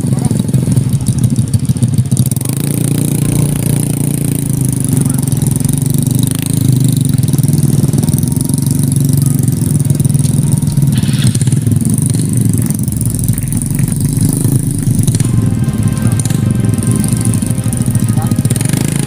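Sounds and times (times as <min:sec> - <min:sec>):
deep rumble: 0:00.0 - 0:19.0
motorcycle engine running: 0:00.0 - 0:19.0.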